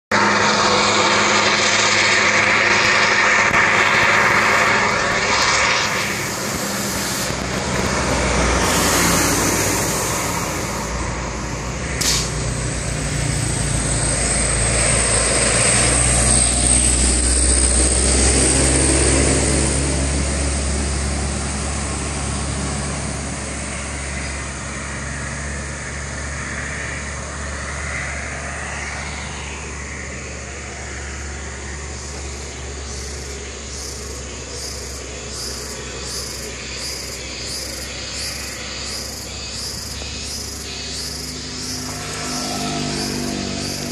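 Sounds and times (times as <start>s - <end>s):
road traffic passing: 0.1s - 43.9s.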